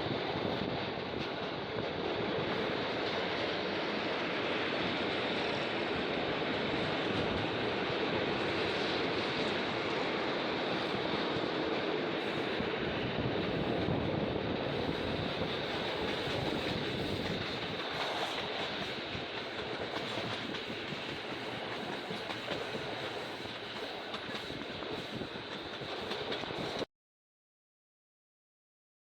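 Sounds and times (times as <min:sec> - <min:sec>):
train rumbling on track: 0:00.0 - 0:26.9.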